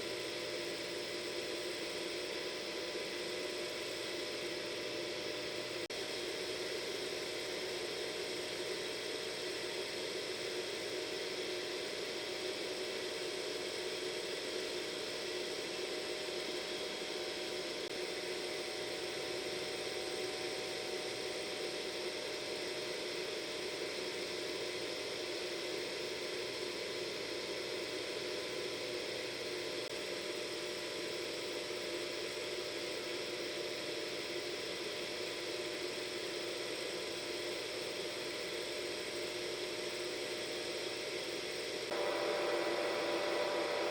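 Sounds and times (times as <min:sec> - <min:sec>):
hair dryer running: 0:00.0 - 0:30.2, 0:34.0 - 0:43.9.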